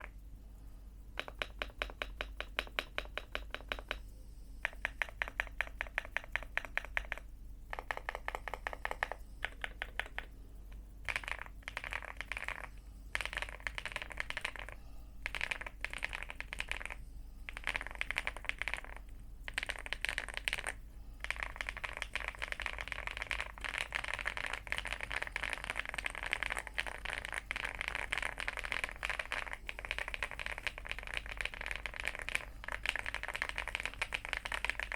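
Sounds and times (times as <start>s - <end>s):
typing on mechanical keyboard: 1.2s - 4.0s, 4.6s - 10.4s, 11.0s - 34.9s.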